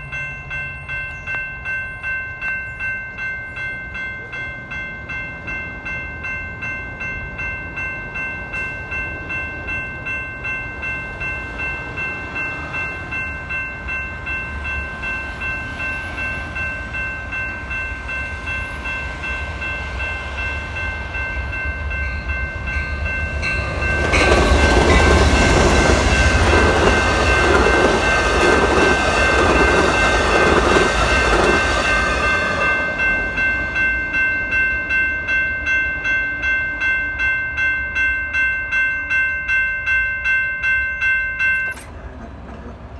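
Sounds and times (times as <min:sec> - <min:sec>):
passenger train rumbling past: 0:00.0 - 0:42.9
railroad crossing bell ringing: 0:00.0 - 0:42.9.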